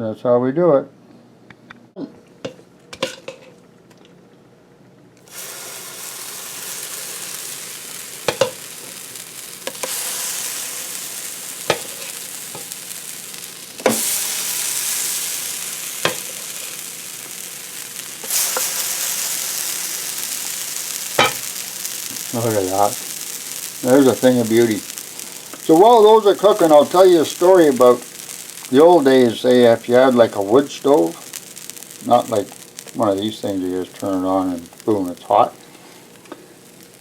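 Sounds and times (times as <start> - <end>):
batter sizzling on griddle: 5.2 - 37.0.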